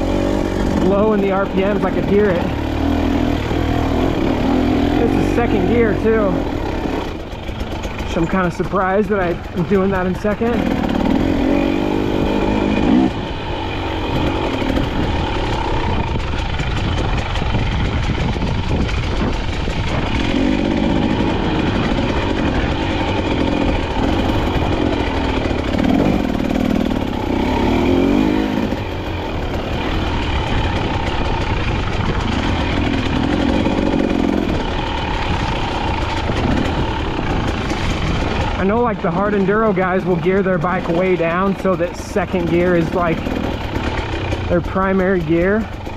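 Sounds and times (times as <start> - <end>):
motorcycle engine at low revs: 0.0 - 45.9.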